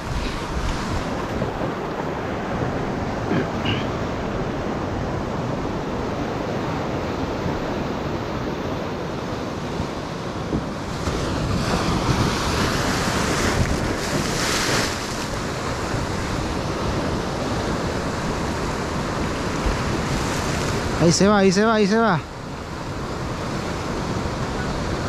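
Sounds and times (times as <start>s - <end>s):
wind buffeting the microphone: 0.0s - 21.2s
surf breaking on a beach: 0.0s - 25.0s.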